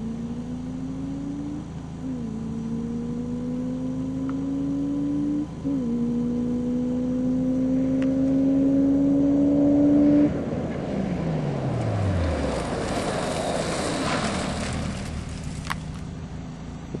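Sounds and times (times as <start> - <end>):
car engine accelerating: 0.0 - 17.0
tyre and road noise: 0.0 - 17.0.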